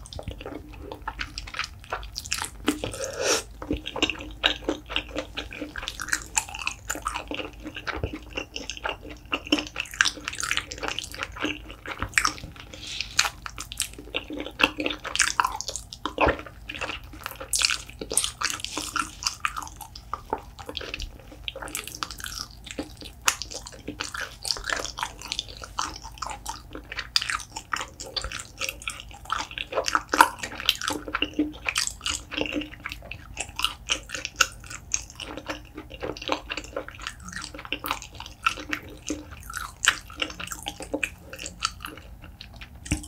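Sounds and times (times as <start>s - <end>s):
wet chewing and mouth smacking: 0.0s - 43.0s.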